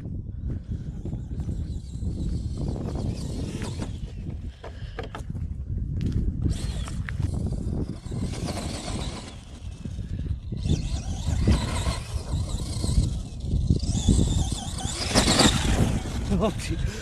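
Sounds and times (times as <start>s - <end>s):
wind buffeting microphone: 0.0s - 17.0s
electric motors whining: 0.6s - 5.0s, 6.4s - 17.0s.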